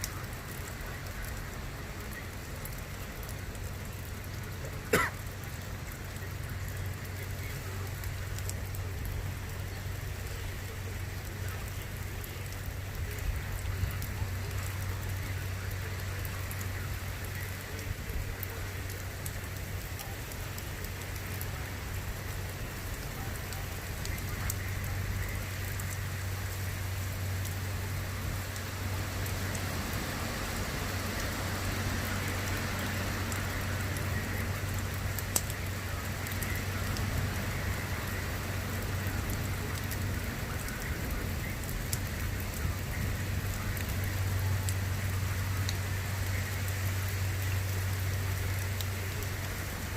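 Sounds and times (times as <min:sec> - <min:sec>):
constant low hum: 0:00.0 - 0:49.9
steady rain falling: 0:00.0 - 0:49.9.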